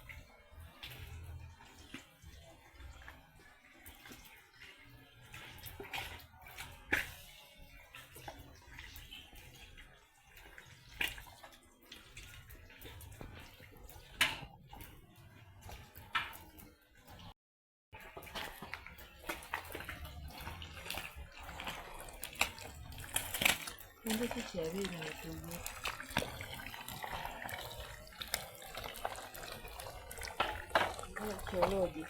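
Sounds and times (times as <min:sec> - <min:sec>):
water sloshing in a basin: 0:00.0 - 0:17.4, 0:18.0 - 0:32.0.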